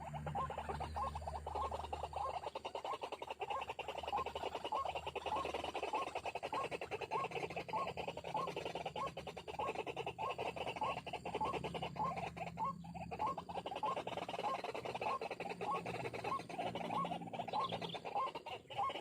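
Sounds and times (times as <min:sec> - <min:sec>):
bird making rattling croaks: 0:00.0 - 0:19.0.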